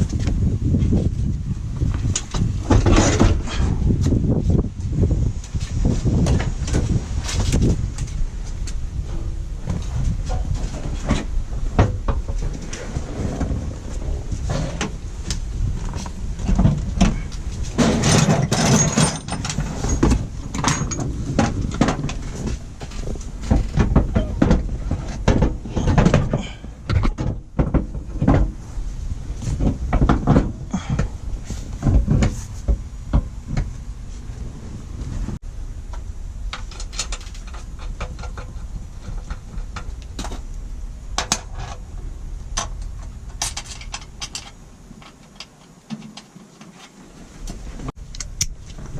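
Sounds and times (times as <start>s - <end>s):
knocks clunks and rattles: 0.0s - 40.5s
low rumble: 0.0s - 45.0s.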